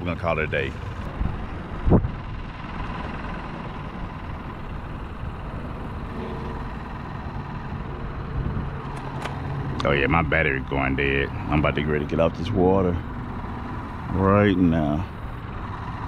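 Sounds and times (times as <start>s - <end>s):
electric motor humming: 0.3s - 16.0s.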